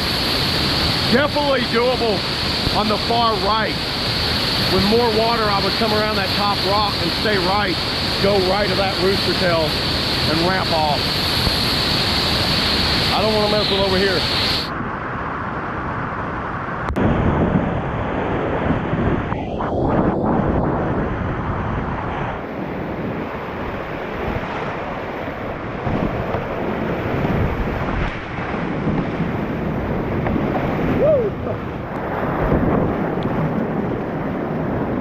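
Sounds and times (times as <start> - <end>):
rushing whitewater: 0.0 - 14.8, 20.9 - 35.0.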